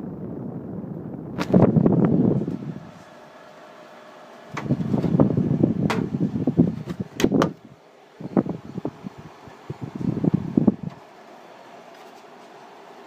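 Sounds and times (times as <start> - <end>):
dehumidifier fan hum: 0.0 - 13.0.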